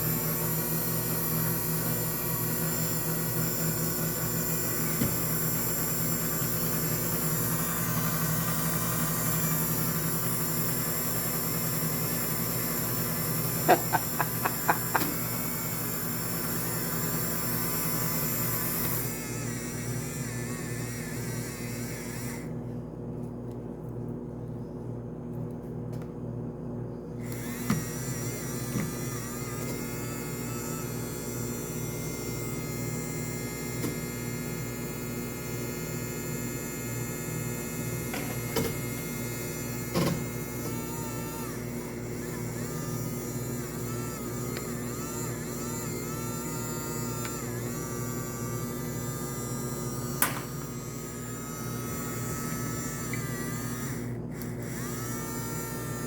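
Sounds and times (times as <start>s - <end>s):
washing machine motor whining: 0.0s - 23.1s, 27.0s - 56.0s.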